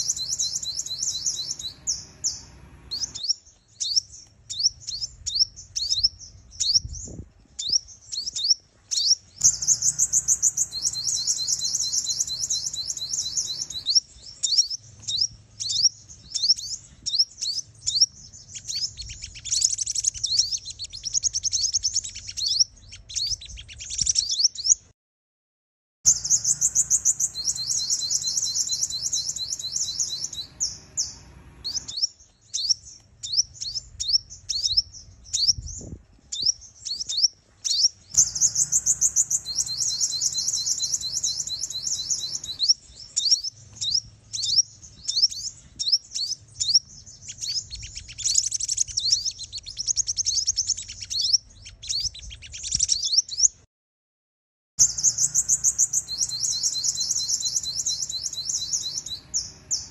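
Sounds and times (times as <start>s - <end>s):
sunbird chirps and trills: 0.0s - 24.9s, 26.1s - 53.7s, 54.8s - 59.9s.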